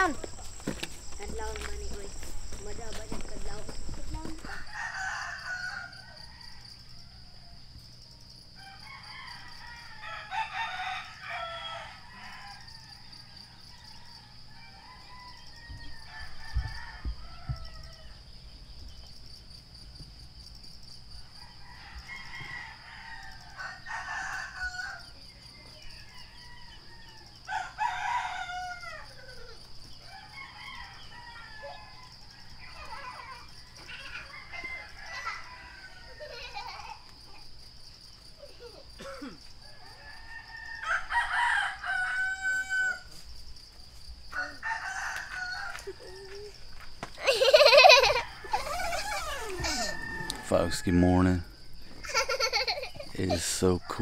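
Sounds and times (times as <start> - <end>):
roosters crowing: 0.0 - 7.7, 8.5 - 18.5, 21.2 - 54.0.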